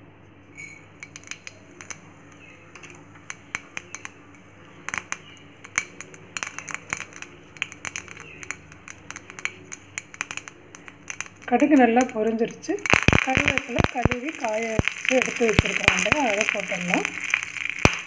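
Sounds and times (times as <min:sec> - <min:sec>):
mustard seeds popping in oil: 0:00.6 - 0:18.0.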